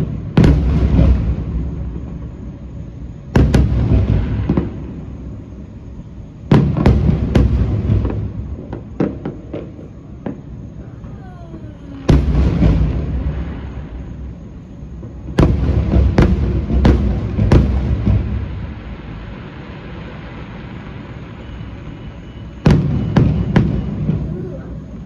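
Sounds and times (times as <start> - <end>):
fireworks popping: 0.0 - 2.4, 3.3 - 5.7, 6.4 - 25.0
fireworks booming: 0.0 - 25.0.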